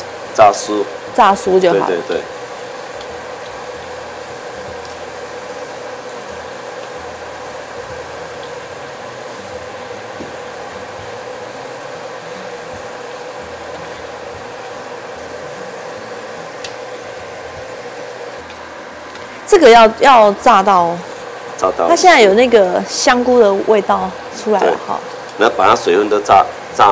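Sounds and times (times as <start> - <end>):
mushrooms sizzling in hot oil: 0.0 - 26.9
steady hum: 0.0 - 26.9.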